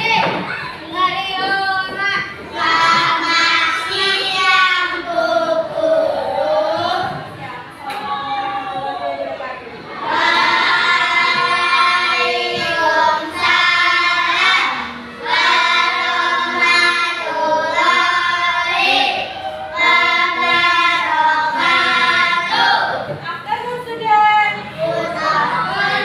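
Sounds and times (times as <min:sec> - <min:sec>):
children singing in unison: 0:00.0 - 0:23.2, 0:24.6 - 0:26.0.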